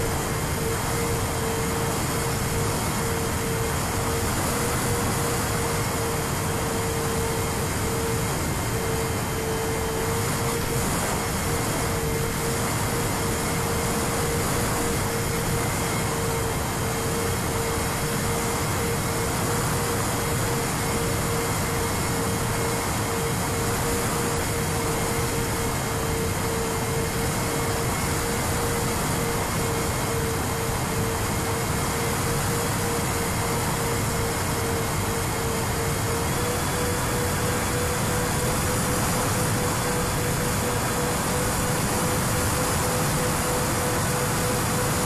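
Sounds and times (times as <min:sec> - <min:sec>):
electric motors and propellers humming: 0:00.0 - 0:45.0.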